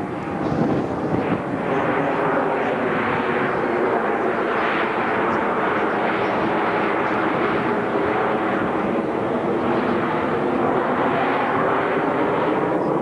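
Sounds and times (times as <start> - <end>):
jet engines in flight: 0.0 - 13.0.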